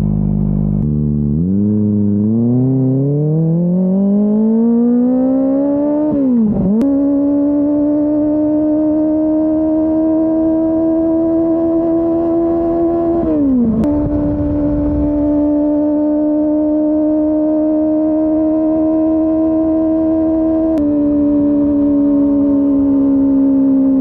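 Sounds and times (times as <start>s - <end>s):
motorcycle engine high revs: 0.7s - 24.0s.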